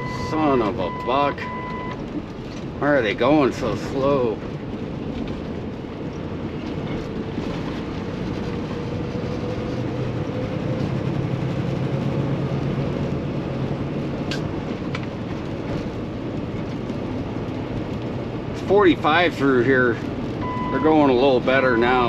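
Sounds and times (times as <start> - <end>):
diesel truck engine droning: 0.0 - 22.0
road and wind noise: 0.0 - 22.0.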